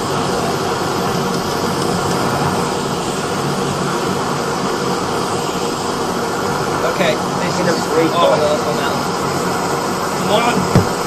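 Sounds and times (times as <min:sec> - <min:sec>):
gas torches rushing: 0:00.0 - 0:11.0.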